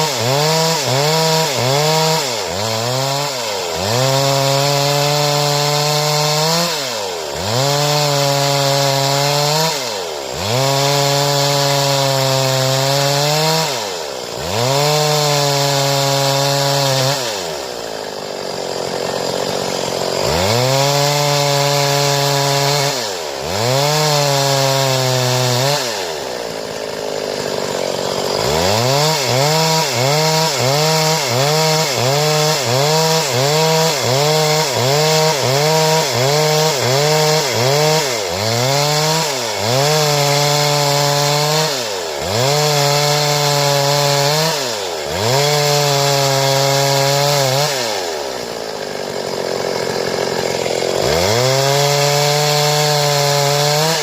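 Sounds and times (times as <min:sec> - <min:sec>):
chainsaw sawing wood: 0:00.0 - 0:54.0.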